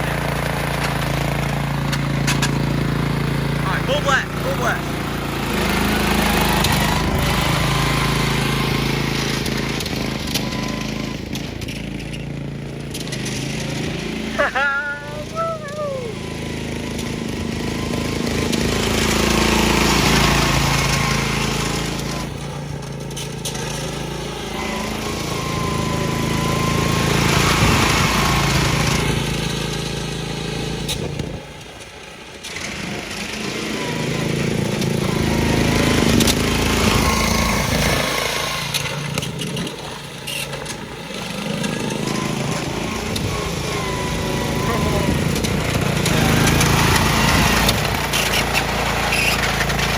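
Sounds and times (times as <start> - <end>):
riding mower engine: 0.0 - 49.9.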